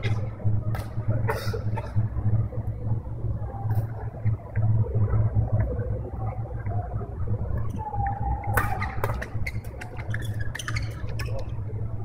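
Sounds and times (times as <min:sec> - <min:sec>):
sports hall background rumble: 0:00.0 - 0:12.0.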